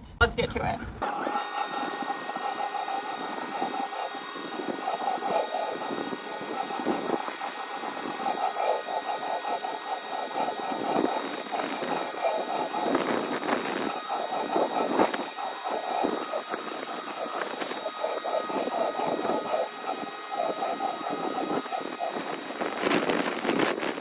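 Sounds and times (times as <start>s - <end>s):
pressure washer motor whine: 1.0s - 24.0s
water spraying at high pressure: 1.0s - 24.0s.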